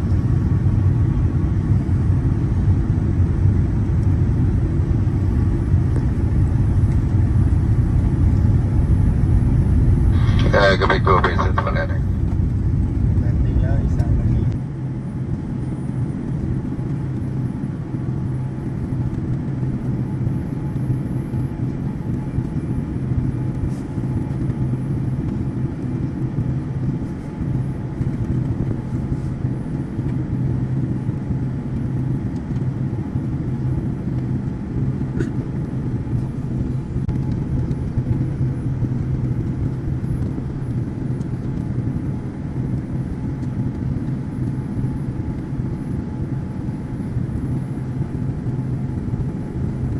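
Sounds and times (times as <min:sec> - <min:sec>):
airliner cabin engine drone: 0:00.0 - 0:49.9
constant low hum: 0:00.0 - 0:49.9.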